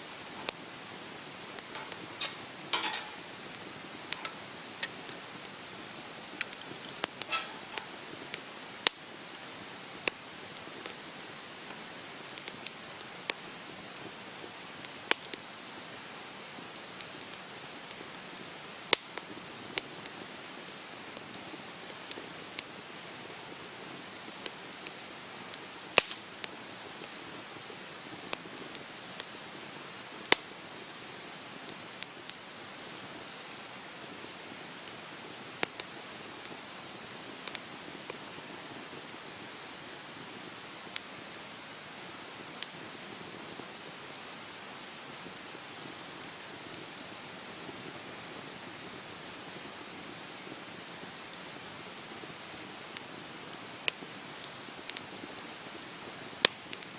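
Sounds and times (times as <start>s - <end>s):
campfire crackling and popping: 0.0s - 56.9s
soft fire hiss: 0.0s - 56.9s.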